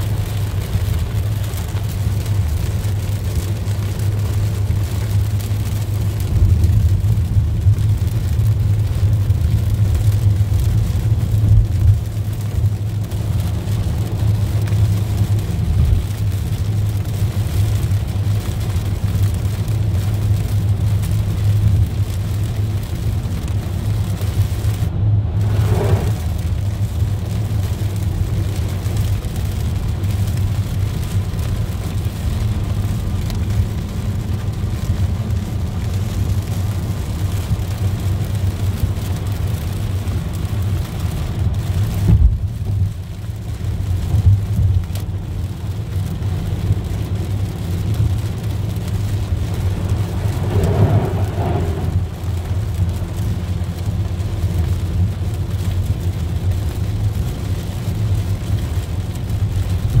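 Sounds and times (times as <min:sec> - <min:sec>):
rain hitting car windshield: 0:00.0 - 1:00.0
road and tyre rumble: 0:00.0 - 1:00.0.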